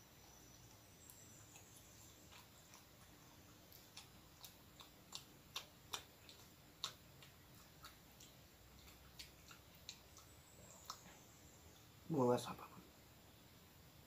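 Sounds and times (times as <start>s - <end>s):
mouth chewing soft bread: 0.0s - 12.1s.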